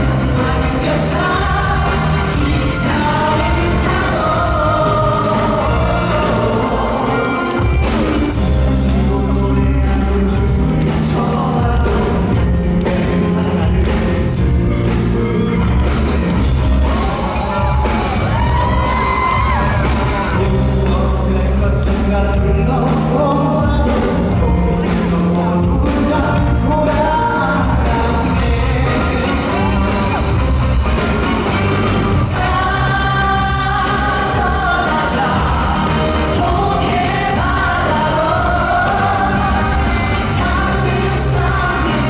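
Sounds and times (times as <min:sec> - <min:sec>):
man singing amplified: 0:00.0 - 0:18.0, 0:19.5 - 0:42.0
rock band playing: 0:00.0 - 0:42.0.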